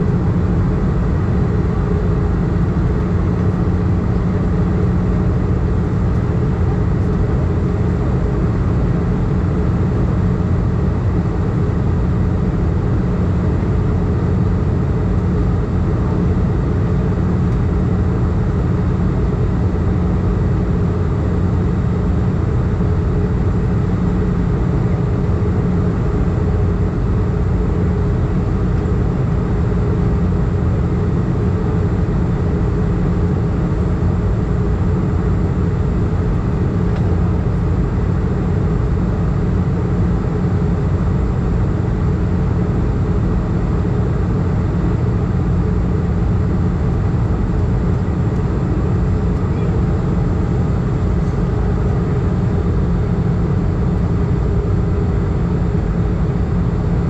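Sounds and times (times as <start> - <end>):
jet engine and airflow drone: 0.0 - 57.0
steady hum tones: 0.0 - 57.0.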